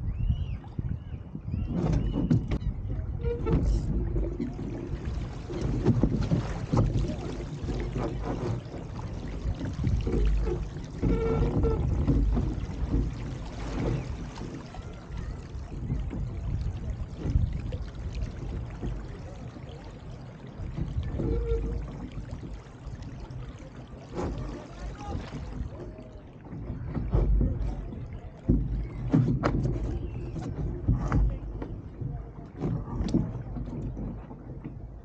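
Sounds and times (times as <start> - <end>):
water splashing along boat hull: 0.0 - 35.0
wind rumble on microphone: 0.0 - 35.0.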